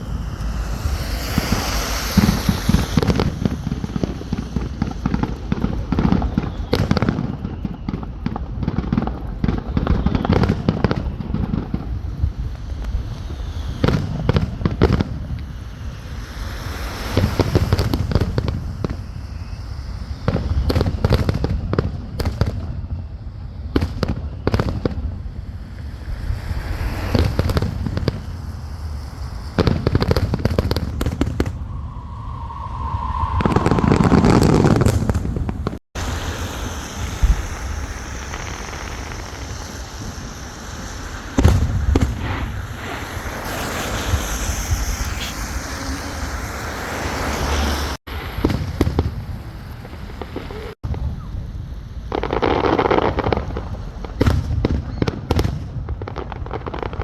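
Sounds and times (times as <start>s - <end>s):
fireworks bangs and crackling: 0.0s - 57.0s
fireworks whistling and rushing: 0.0s - 57.0s.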